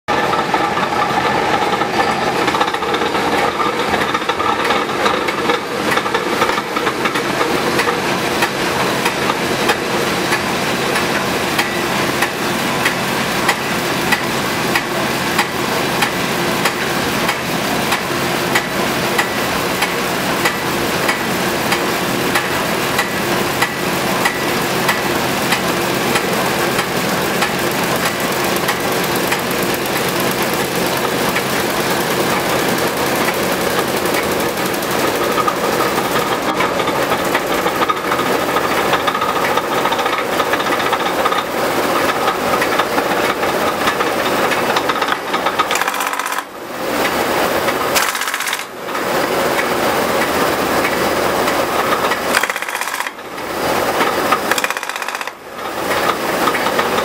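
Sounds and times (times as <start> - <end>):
edge planer disc spinning: 0.1 - 57.0
regular mechanical ticking: 0.5 - 47.1, 47.7 - 49.0, 49.6 - 57.0.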